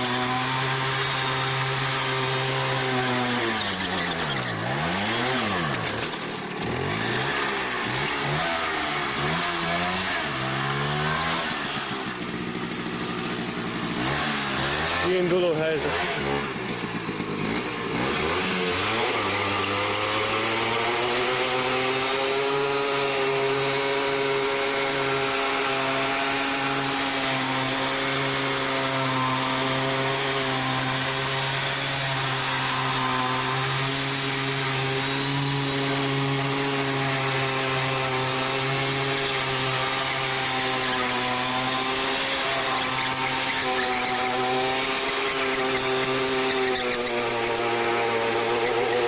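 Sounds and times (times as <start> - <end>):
two-stroke moped engine revving: 0.0 - 49.0.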